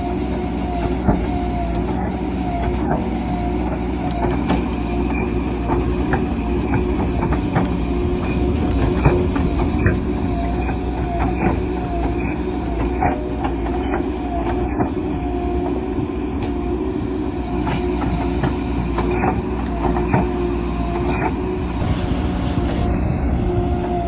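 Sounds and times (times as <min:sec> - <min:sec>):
heavy machine whining drone: 0:00.0 - 0:24.0
knocks and clanks: 0:00.3 - 0:15.8, 0:17.4 - 0:21.8.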